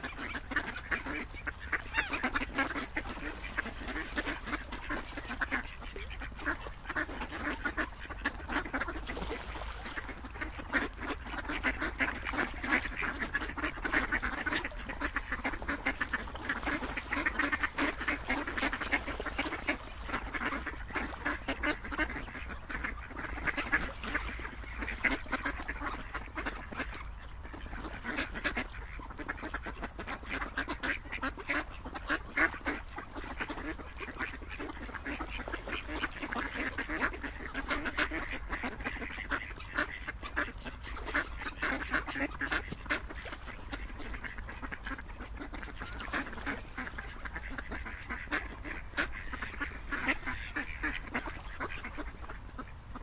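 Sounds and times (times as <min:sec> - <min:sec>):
ducks quacking: 0:00.0 - 0:53.0.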